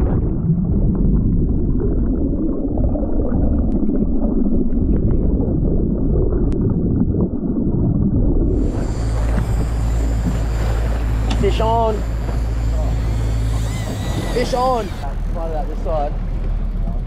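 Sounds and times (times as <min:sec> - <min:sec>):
muffled underwater water rush: 0:00.0 - 0:17.0.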